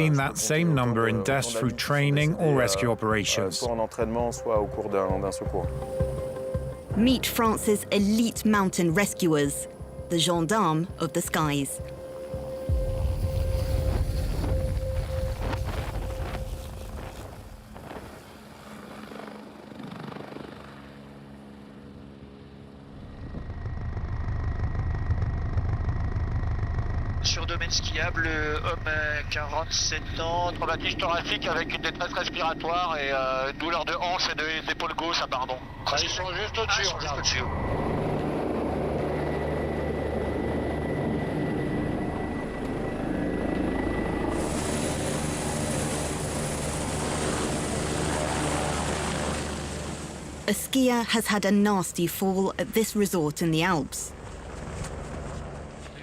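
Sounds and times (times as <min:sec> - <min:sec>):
helicopter running: 0:00.0 - 0:56.0.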